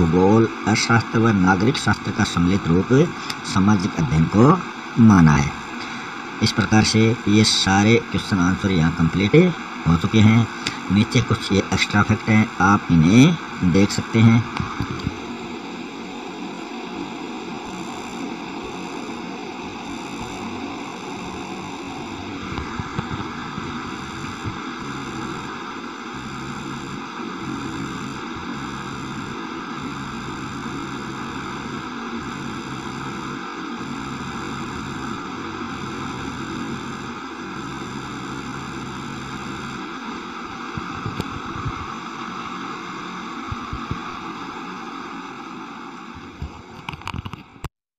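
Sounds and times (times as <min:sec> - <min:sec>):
faint high whine: 0:00.0 - 0:47.4
electrical hum: 0:00.0 - 0:47.7
static hiss: 0:00.0 - 0:47.7.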